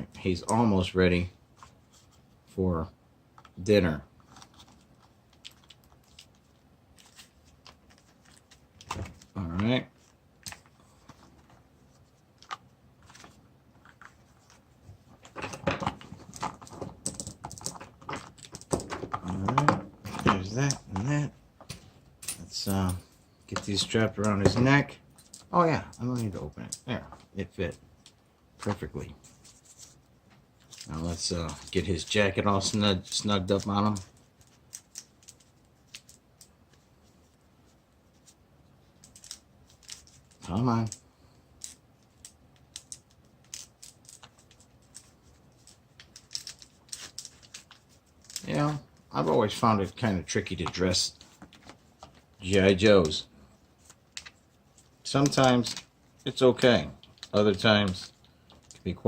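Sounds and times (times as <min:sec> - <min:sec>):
rustling: 0:04.2 - 0:59.0.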